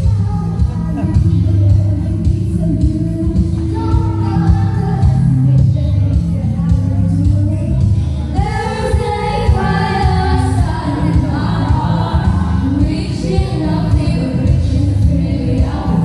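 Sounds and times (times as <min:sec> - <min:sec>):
amplified backing music with bass beat: 0:00.0 - 0:16.0
female vocal group singing: 0:00.0 - 0:16.0.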